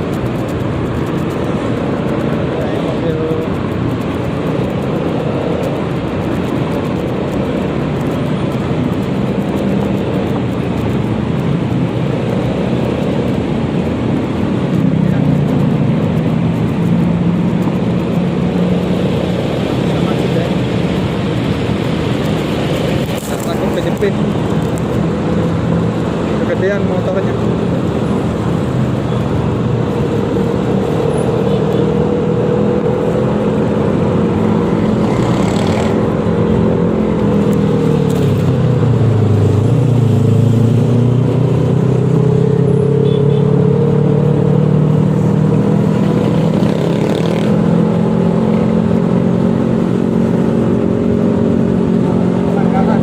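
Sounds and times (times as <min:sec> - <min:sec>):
road noise: 0:00.0 - 0:53.0
scooter engine running: 0:00.0 - 0:53.0
wind noise: 0:00.0 - 0:53.0.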